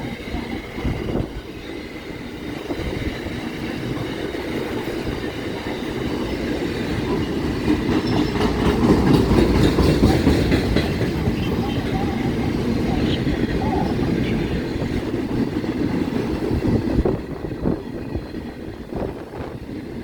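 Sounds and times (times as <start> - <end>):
freight train wheels rumbling and clacking: 0.0 - 20.0.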